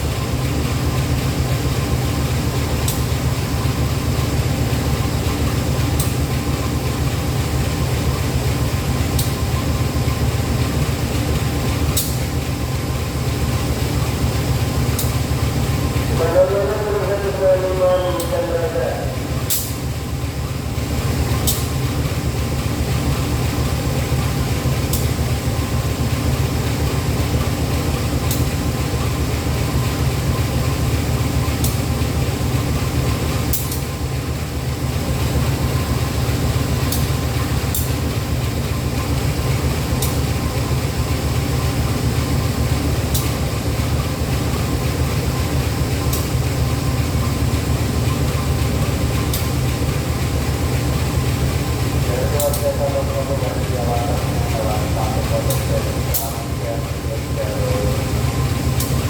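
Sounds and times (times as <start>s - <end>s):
locomotive engine humming: 0.0s - 59.0s.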